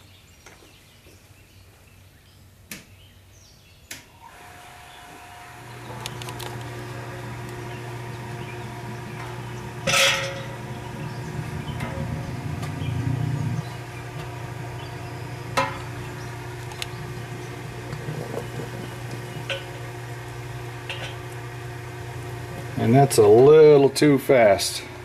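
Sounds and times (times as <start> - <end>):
electric pump humming: 4.1 - 25.0.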